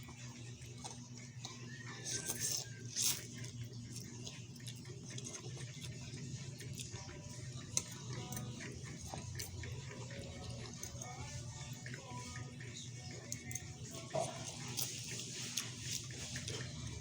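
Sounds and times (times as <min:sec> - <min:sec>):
chewing: 0:00.0 - 0:17.0
low steady hum: 0:00.0 - 0:17.0.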